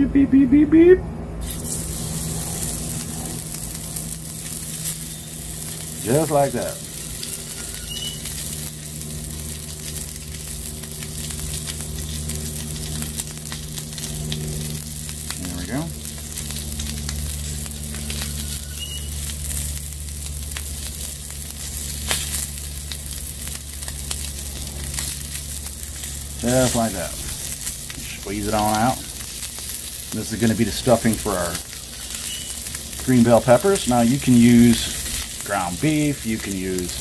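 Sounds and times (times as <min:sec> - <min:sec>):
low steady hum: 0:00.0 - 0:37.0
meat sizzling on a griddle: 0:01.4 - 0:37.0.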